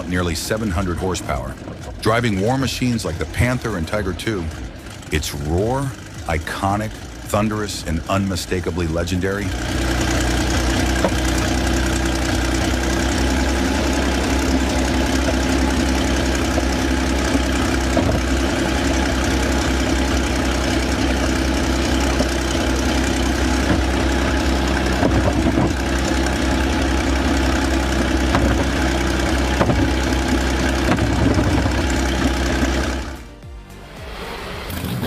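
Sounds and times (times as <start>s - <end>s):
tank engine idling: 0.0s - 35.0s.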